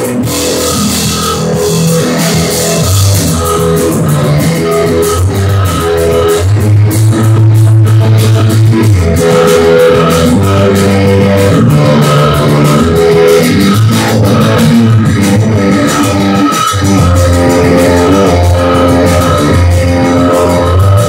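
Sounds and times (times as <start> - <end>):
drum kit: 0.0 - 21.0
electric bass: 0.0 - 21.0
electric guitar: 0.0 - 21.0.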